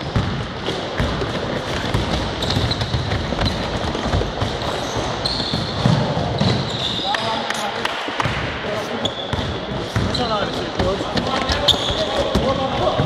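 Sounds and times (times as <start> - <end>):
basketballs bouncing on wood floor: 0.0 - 7.0, 8.2 - 13.0
sneaker squeaks: 1.0 - 7.6, 9.0 - 13.0.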